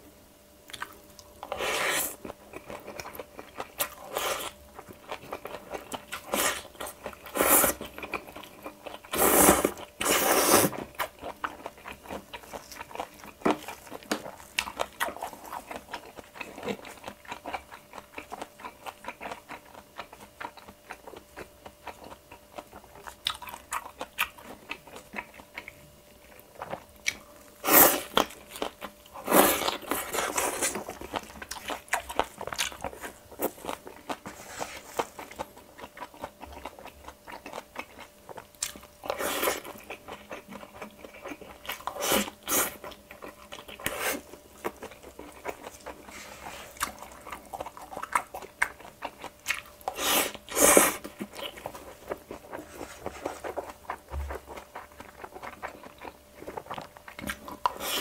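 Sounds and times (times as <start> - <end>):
close chewing with wet smacking: 0.6 - 1.6, 2.2 - 10.1, 10.7 - 34.3, 35.0 - 46.1, 46.7 - 58.0.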